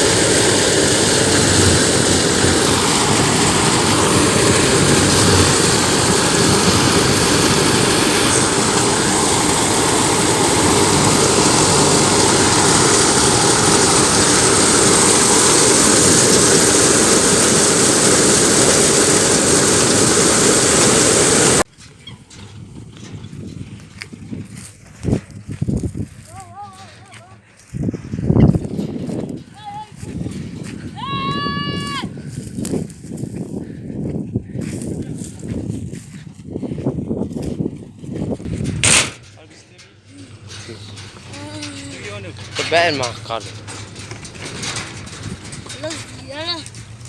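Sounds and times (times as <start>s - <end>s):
combine harvester running: 0.0s - 47.0s.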